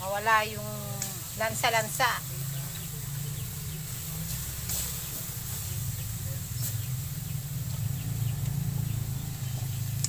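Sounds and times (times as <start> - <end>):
meat sizzling in a wok: 0.0 - 10.0
bird chirps: 1.4 - 10.0.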